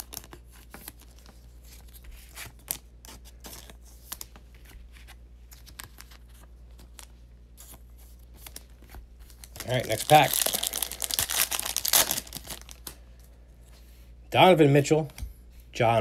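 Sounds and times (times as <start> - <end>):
cards and plastic sleeves rustling: 0.0 - 13.0.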